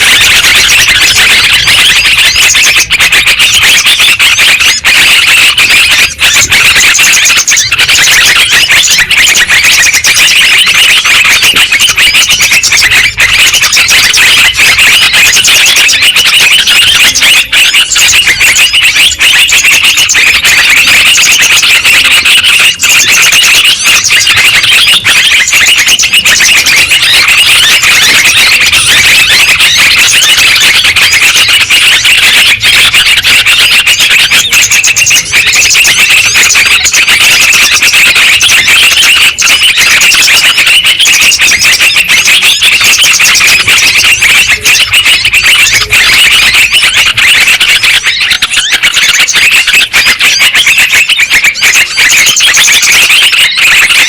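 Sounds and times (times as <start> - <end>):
bulbuls calling: 0.0 - 54.0.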